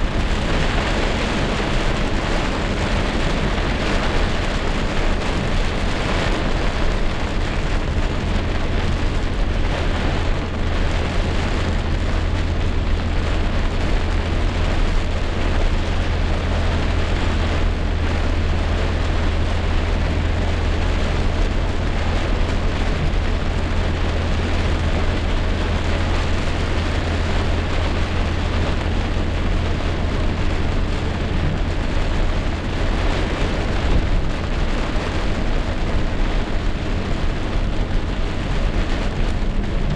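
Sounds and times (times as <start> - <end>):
heavy rain pouring: 0.0 - 39.9
low rumble: 0.0 - 39.9.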